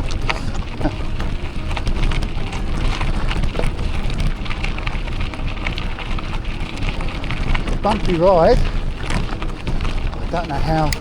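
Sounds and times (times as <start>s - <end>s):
bike tyres crackling over ground: 0.0s - 11.0s
low rumble: 0.0s - 11.0s.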